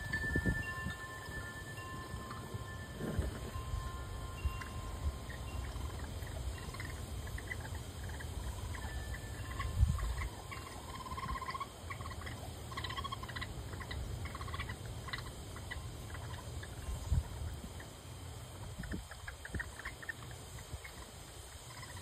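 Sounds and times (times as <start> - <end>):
raccoon kits chittering: 2.0 - 22.0.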